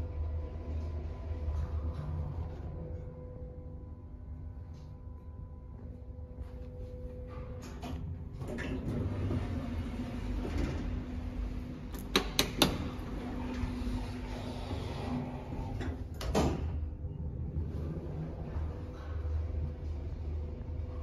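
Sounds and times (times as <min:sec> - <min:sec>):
steady lift hum: 0:00.0 - 0:21.0.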